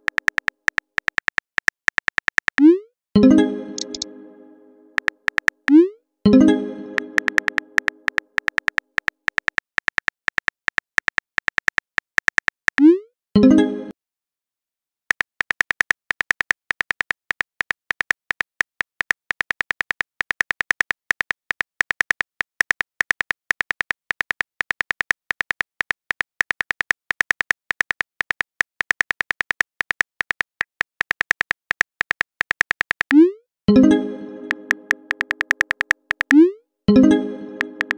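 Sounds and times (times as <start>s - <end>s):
phone keyboard typing clicks: 0.0s - 2.7s, 3.8s - 4.1s, 5.0s - 5.8s, 6.9s - 12.9s, 15.1s - 33.3s, 34.4s - 36.5s, 37.5s - 37.9s.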